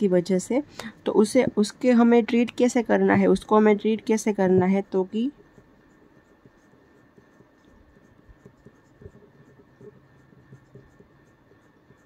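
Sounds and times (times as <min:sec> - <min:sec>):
pen scratching on paper: 0:01.2 - 0:12.0.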